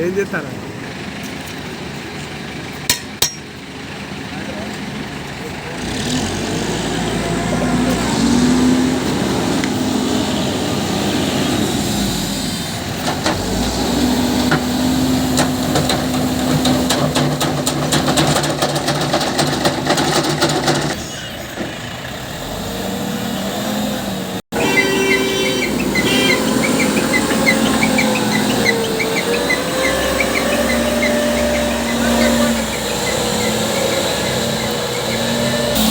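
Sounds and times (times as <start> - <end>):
diesel engine running under load: 0.0 - 35.9.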